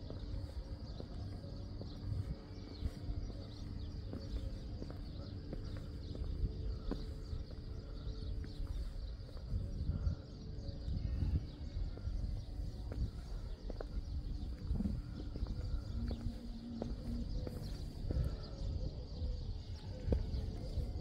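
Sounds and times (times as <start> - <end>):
footsteps on pavement: 0.0 - 21.0.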